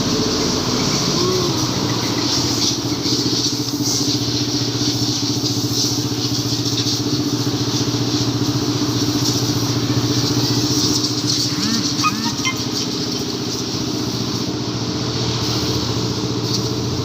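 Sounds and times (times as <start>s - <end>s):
small motorcycle engine idling: 0.0s - 17.0s.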